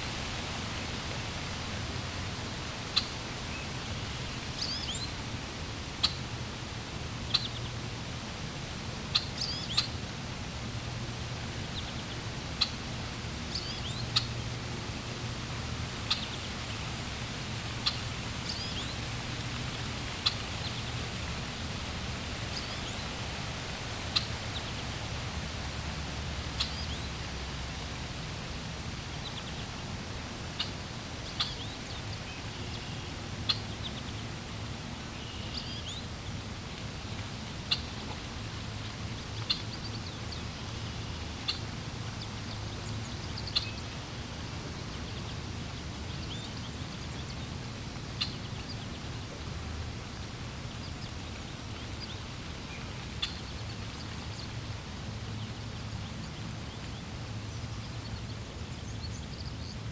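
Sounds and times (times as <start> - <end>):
water flowing: 0.0 - 59.0.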